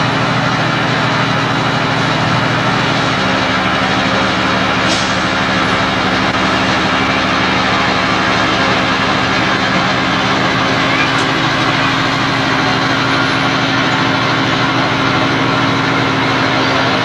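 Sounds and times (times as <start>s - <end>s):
fire truck engine humming: 0.0s - 17.0s.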